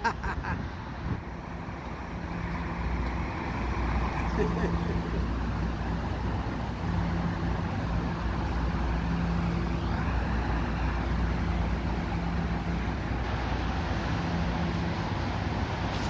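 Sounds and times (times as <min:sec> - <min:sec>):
train standing humming: 0:00.0 - 0:16.0.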